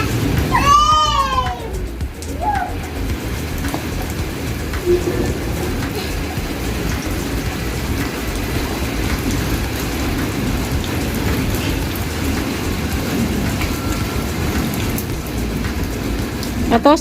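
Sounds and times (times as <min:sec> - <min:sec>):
rain pouring: 0:00.0 - 0:17.0.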